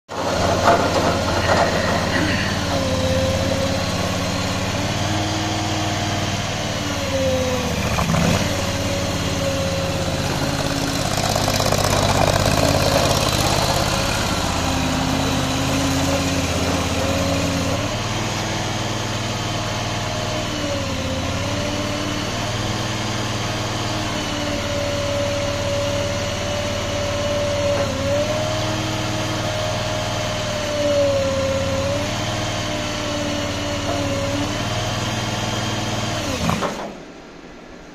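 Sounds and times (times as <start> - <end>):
loader engine running: 0.1 - 37.8.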